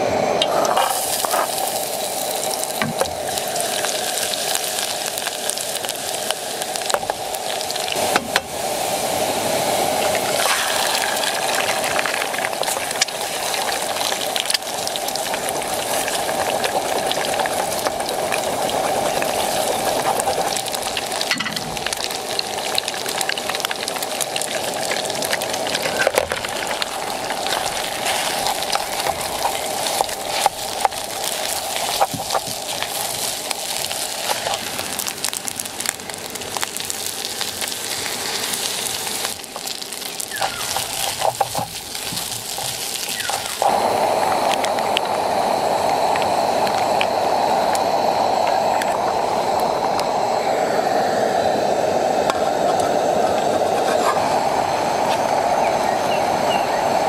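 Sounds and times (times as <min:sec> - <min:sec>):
food sizzling in a pan: 0:00.3 - 0:57.0
crackles and pops: 0:00.4 - 0:08.6, 0:09.9 - 0:50.9.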